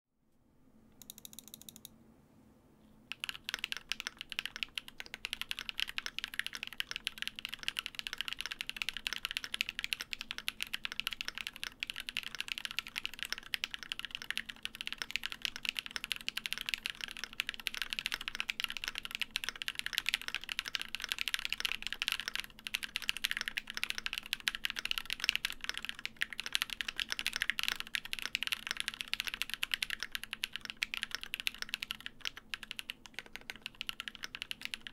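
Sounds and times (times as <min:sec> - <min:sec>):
fast typing on mechanical keyboard: 0:01.0 - 0:01.9, 0:03.1 - 0:34.9.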